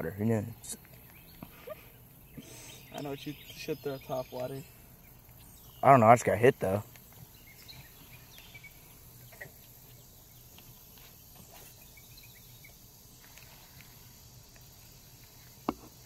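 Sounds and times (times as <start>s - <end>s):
high insect drone: 1.4s - 16.0s.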